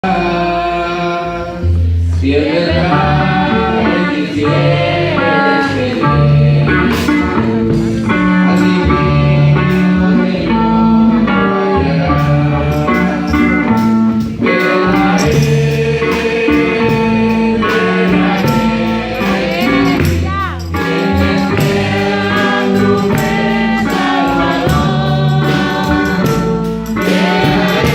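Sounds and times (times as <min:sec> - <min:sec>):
gospel hymn on guitar and bass: 0:00.0 - 0:27.9
men singing: 0:00.0 - 0:27.9.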